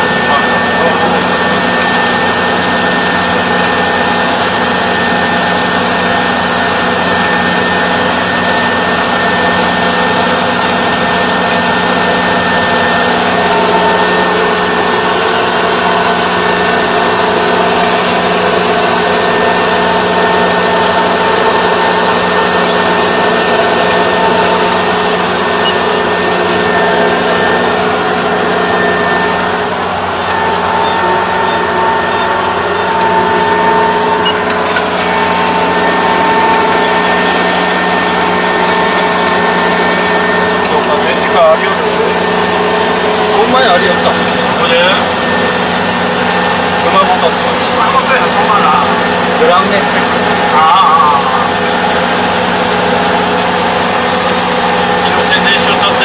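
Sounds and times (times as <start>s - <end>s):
high whine: 0.0s - 56.0s
machinery engine drone: 0.0s - 56.0s.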